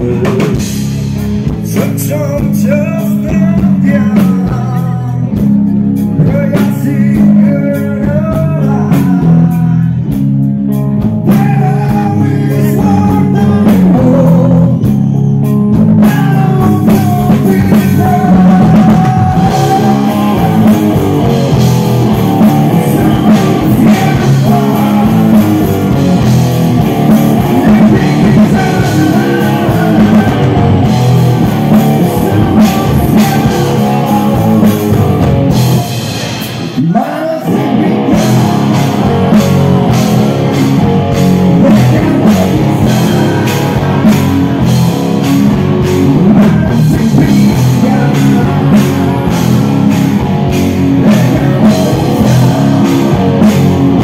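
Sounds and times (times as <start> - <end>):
man singing: 0.0 - 0.7, 1.6 - 10.2, 11.2 - 15.0, 16.0 - 26.2, 26.9 - 35.4, 36.7 - 40.5, 41.4 - 45.3, 46.1 - 50.0
rock band playing: 0.0 - 54.0.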